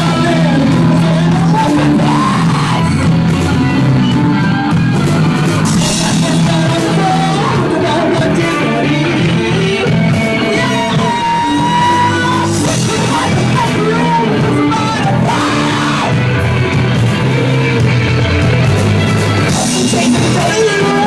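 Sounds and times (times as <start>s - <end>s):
metal band playing: 0.0s - 21.0s.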